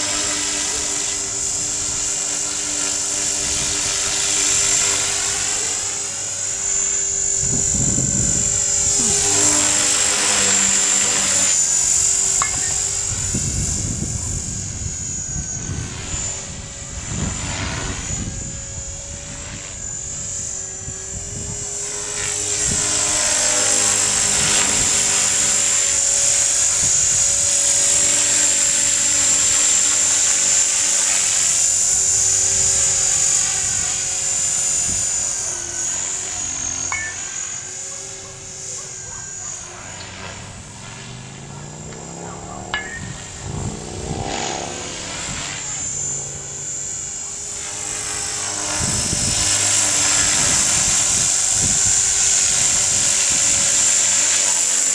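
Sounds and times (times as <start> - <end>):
rc helicopter motor whine: 0.0 - 54.9
rotor noise: 0.0 - 54.9.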